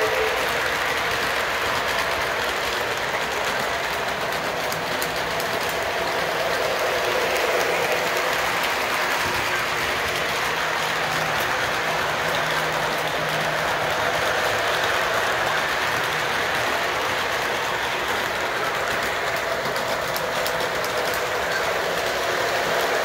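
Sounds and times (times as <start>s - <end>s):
model train rumbling and clattering: 0.0s - 23.0s.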